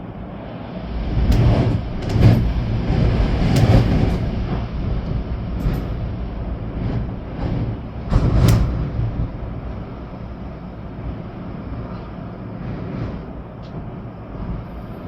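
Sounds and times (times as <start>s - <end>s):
storm wind gusting: 0.2s - 14.8s
wind buffeting microphone: 0.2s - 15.0s.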